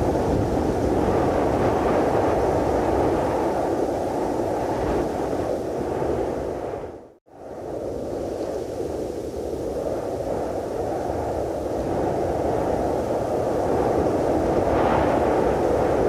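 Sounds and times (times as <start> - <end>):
wind howling: 0.0 - 16.0.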